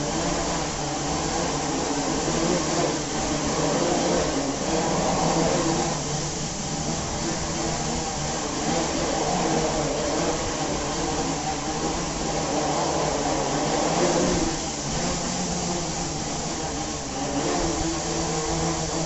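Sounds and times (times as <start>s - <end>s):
drone propellers whirring: 0.0s - 19.0s.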